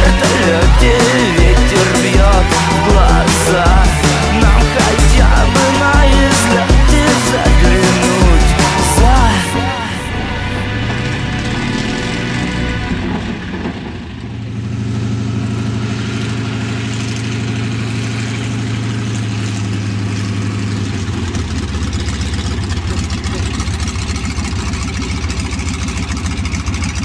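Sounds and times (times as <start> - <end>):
aircraft engine running: 0.0 - 27.0.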